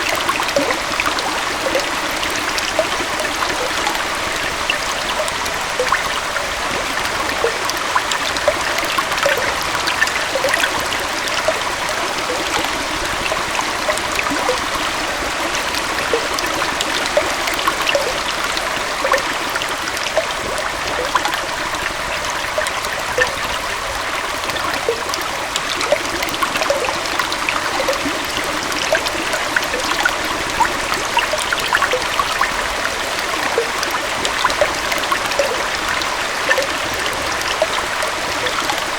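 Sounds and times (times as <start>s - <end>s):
stream splashing over rocks: 0.0s - 38.9s.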